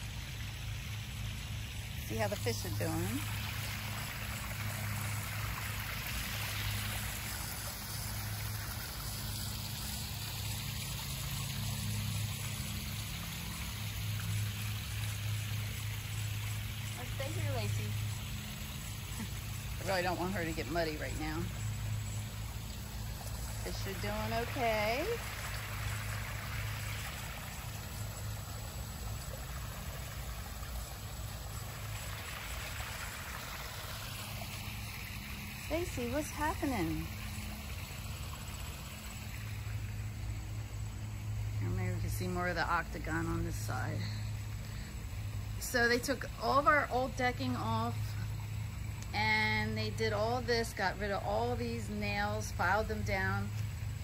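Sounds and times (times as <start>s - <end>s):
low steady rumble: 0.0s - 54.0s
water trickling into pond: 0.0s - 54.0s.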